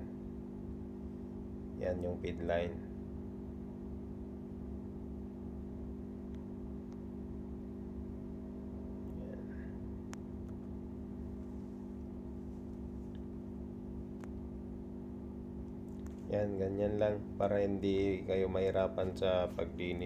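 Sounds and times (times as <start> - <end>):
engine room machinery hum: 0.0 - 20.0.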